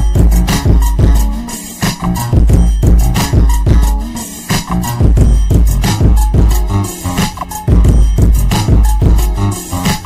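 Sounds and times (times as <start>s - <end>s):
hip-hop music with heavy bass: 0.0s - 10.0s.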